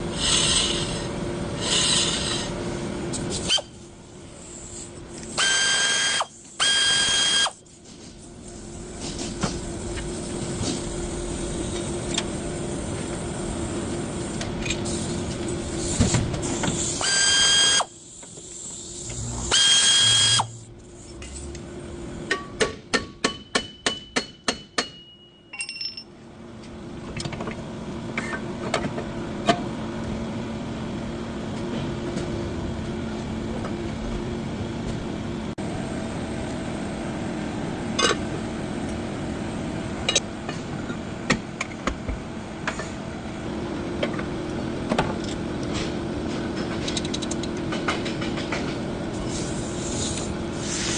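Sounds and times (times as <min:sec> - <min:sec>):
mechanical hum: 0:00.0 - 0:50.9.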